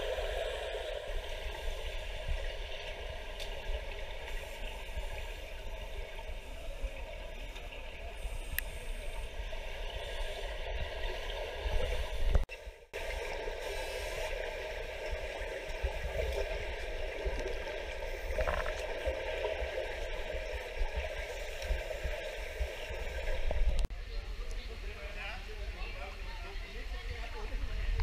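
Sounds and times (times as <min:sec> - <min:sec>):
regulator bubbles gurgling: 0:00.0 - 0:23.9
steady watery rumble: 0:00.0 - 0:28.0.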